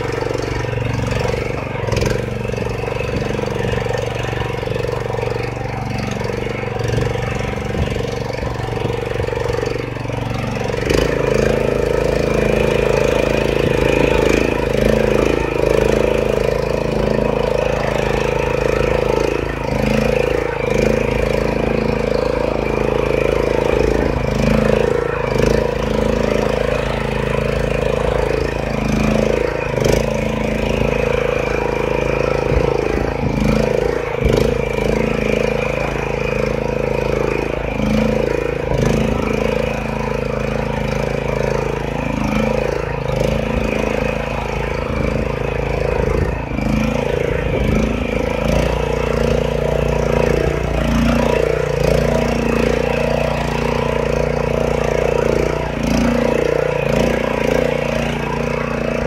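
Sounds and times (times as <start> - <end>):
tiller engine running: 0.0 - 59.0.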